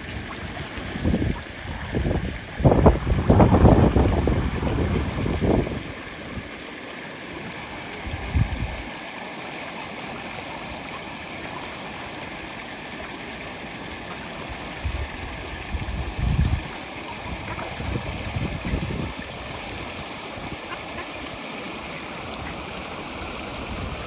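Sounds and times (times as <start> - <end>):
water rushing in fast current: 0.0 - 24.0.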